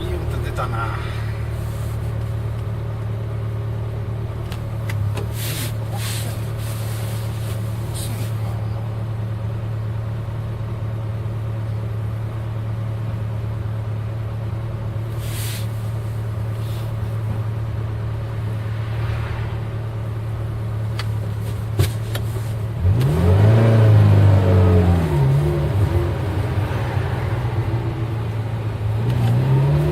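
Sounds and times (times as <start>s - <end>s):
car engine revving: 0.0s - 10.3s, 15.1s - 29.9s.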